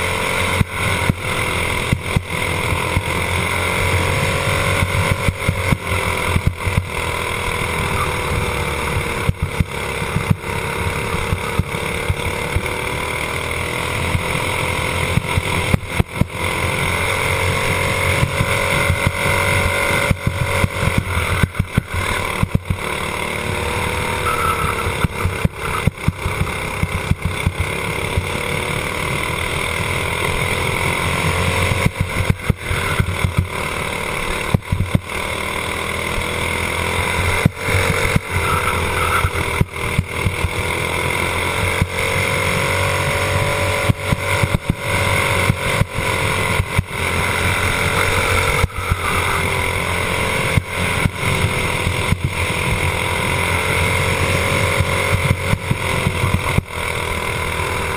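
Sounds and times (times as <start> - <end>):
racing kart engine: 0.0 - 57.9.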